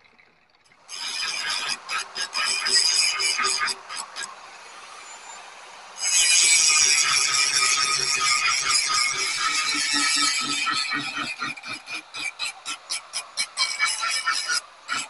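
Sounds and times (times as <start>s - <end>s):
grinder on steel: 0.9s - 15.0s.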